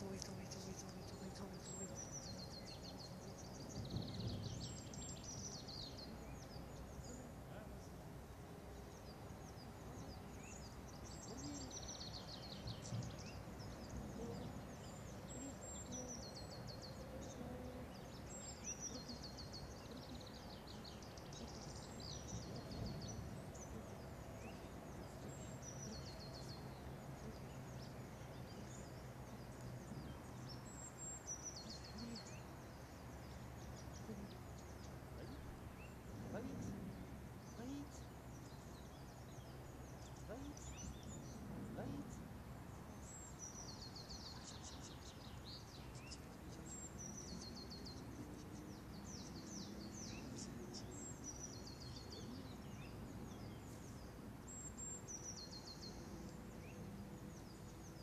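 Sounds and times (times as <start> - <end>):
faint outdoor background noise: 0.0 - 58.0
songbirds singing: 0.0 - 58.0.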